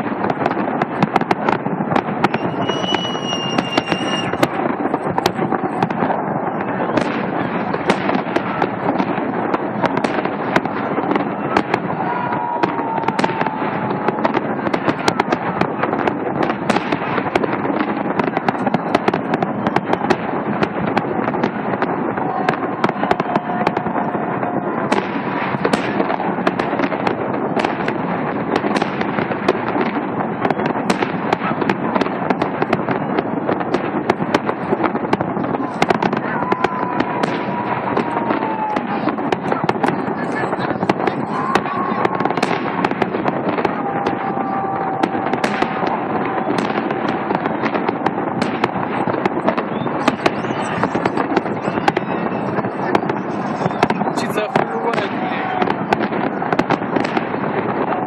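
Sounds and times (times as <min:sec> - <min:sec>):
faint fireworks whistles: 0:00.0 - 0:58.0
fireworks crackling: 0:00.0 - 0:58.0.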